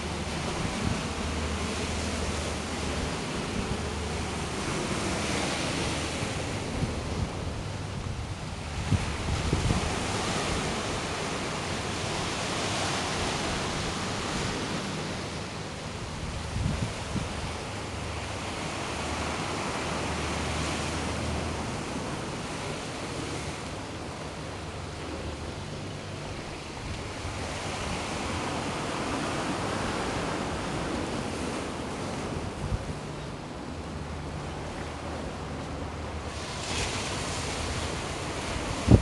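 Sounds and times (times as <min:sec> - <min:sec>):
surf washing over rocks: 0:00.0 - 0:39.0
wind rumbling on microphone: 0:00.0 - 0:39.0.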